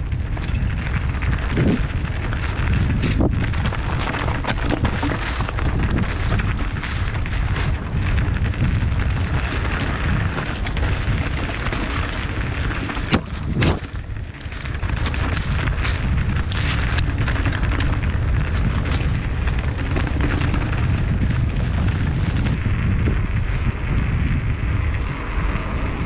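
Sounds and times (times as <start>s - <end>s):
bike knocking over bumps: 0.0s - 22.7s
bike tyres on dirt trail: 0.0s - 26.0s
wind buffeting microphone: 0.0s - 26.0s.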